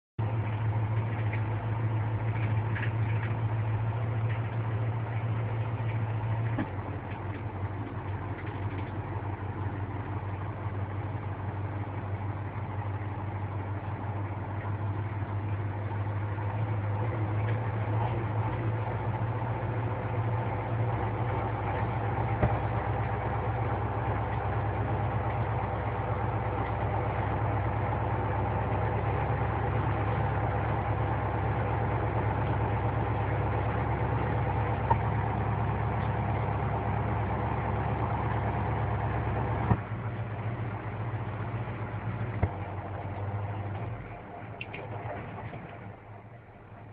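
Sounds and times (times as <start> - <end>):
truck engine droning: 0.0 - 46.9.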